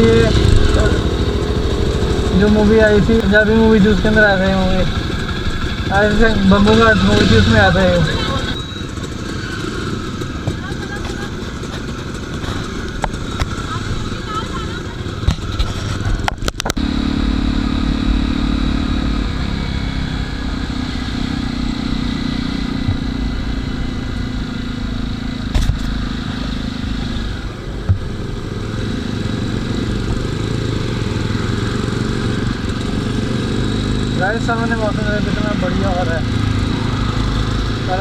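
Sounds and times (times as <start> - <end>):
motorcycle engine running: 0.0 - 38.0
wind and road noise: 0.0 - 38.0.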